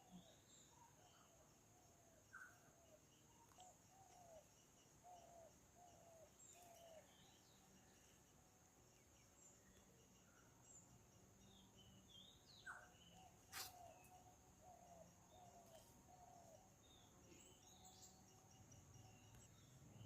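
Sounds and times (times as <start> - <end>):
birds chirping: 2.2 - 20.0.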